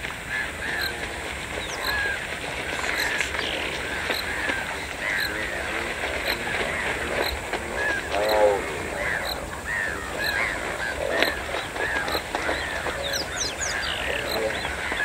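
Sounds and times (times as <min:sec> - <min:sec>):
deep honking bird call: 0:00.0 - 0:15.0
bird chirps: 0:00.6 - 0:05.6, 0:06.2 - 0:15.0.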